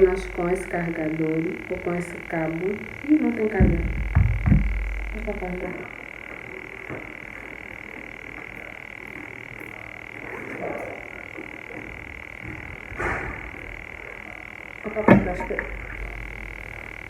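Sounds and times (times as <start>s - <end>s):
high-pitched drone: 0.0s - 17.0s.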